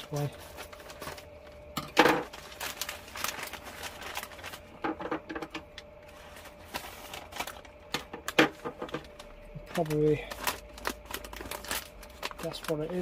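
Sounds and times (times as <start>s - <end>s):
plastic bag crinkling and rustling: 0.0s - 13.0s.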